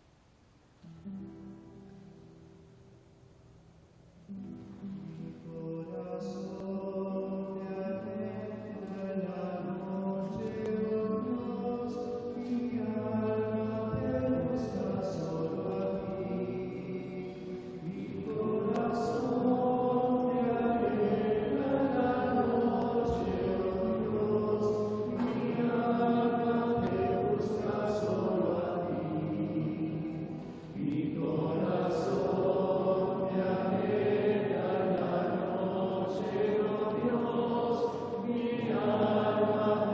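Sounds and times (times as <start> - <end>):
congregation singing a chant: 4.3 - 39.9.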